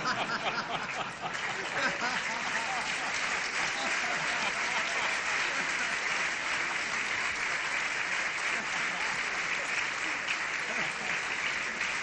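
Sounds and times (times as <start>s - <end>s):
crowd laughing: 0.0s - 7.4s, 8.2s - 12.0s
crowd applauding: 0.0s - 12.0s.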